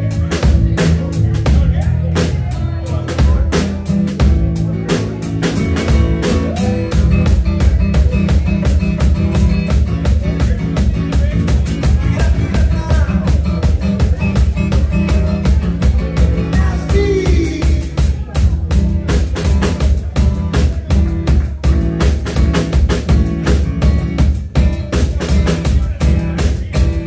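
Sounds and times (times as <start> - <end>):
acoustic guitar: 0.0 - 27.0
drum kit beat: 0.0 - 27.0
electric bass line: 0.0 - 27.0.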